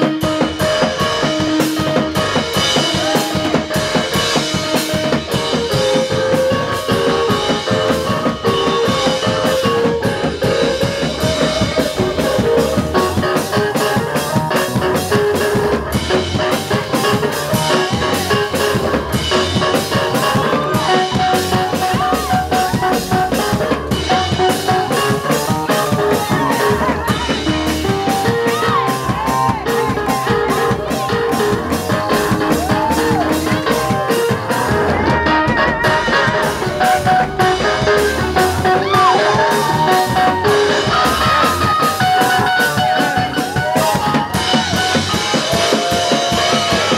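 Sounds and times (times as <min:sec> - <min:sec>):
drum kit fast beat: 0:00.0 - 0:46.9
keyboard playing: 0:00.0 - 0:46.9.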